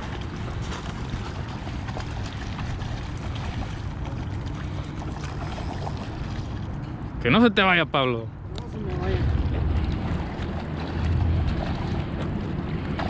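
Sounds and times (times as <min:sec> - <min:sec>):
wind rumbling on microphone: 0:00.0 - 0:07.2, 0:08.4 - 0:13.0.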